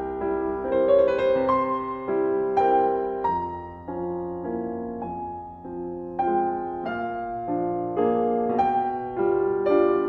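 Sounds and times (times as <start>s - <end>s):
solo piano chords: 0.0s - 10.0s.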